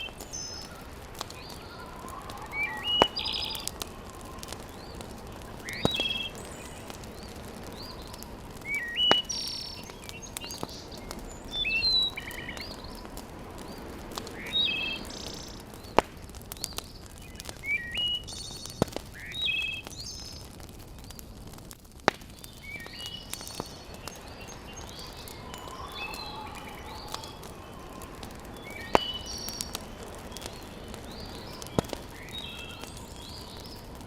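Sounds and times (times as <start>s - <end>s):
small birds chirping: 0.0s - 34.0s
wood fire popping: 0.0s - 34.0s.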